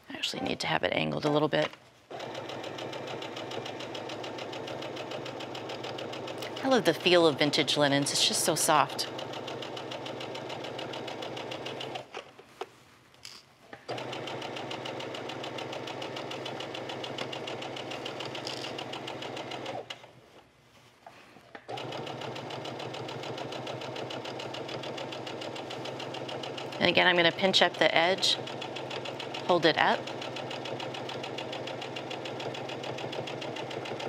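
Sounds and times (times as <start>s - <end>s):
electric sewing machine stitching: 2.1s - 12.1s, 13.9s - 19.9s, 21.7s - 34.0s.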